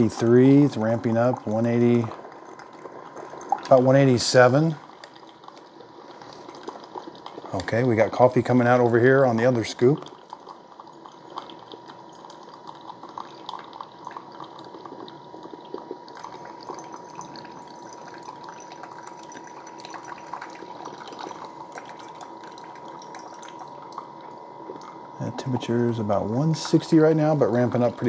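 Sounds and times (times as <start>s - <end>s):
coffee dripping into mugs: 0.0s - 28.0s.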